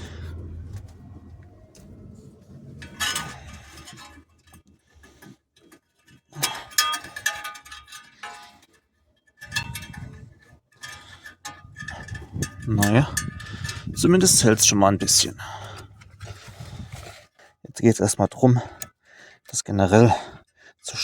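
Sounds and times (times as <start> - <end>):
metal clinking and rattling: 0.0 - 17.4.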